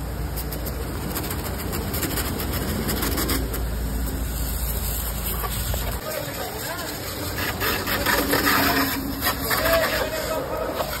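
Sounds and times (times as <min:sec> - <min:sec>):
water jet hissing: 0:00.0 - 0:11.0.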